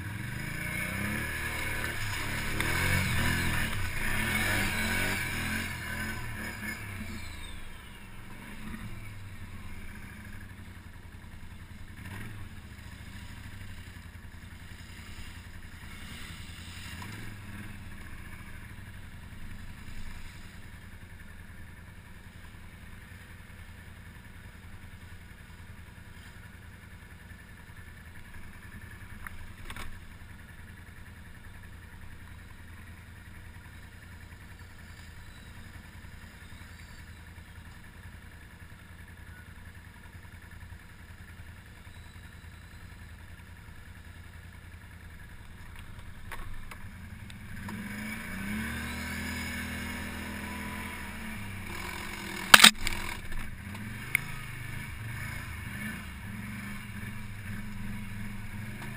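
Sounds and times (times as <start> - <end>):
atv engine idling and revving: 0.0 - 58.9.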